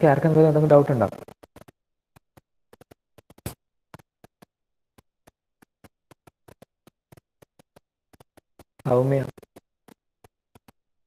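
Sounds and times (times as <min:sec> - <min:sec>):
faint irregular clicks: 0:01.0 - 0:11.0.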